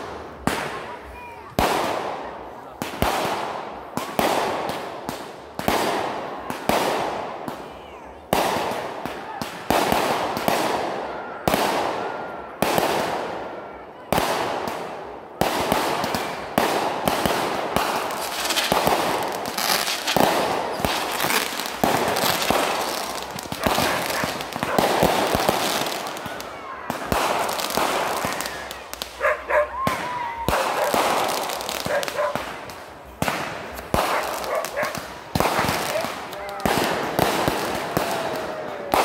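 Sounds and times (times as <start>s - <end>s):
crackling of fireworks: 0.0s - 39.0s
fireworks banging: 0.0s - 39.0s.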